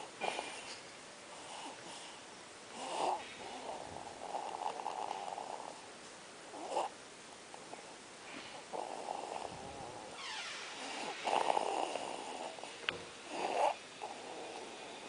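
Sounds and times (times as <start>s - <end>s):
baby snoring: 0.0s - 0.8s, 1.4s - 5.9s, 6.5s - 7.0s, 7.7s - 15.0s.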